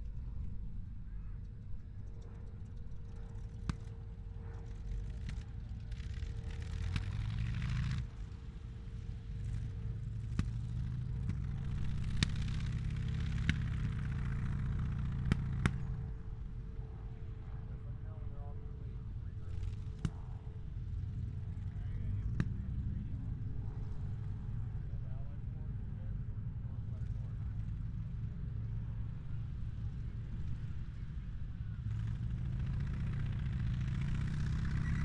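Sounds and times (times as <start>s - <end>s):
tank engine rumbling: 0.0s - 35.0s.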